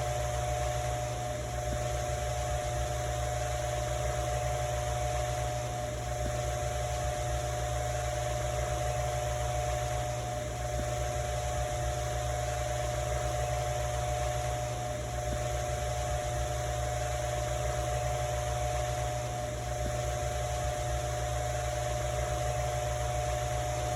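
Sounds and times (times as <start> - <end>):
electric fan running: 0.0 - 23.9.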